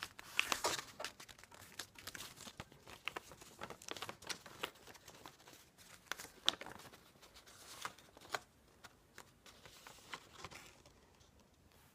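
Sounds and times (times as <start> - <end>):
paper rustling and folding: 0.0 - 11.9.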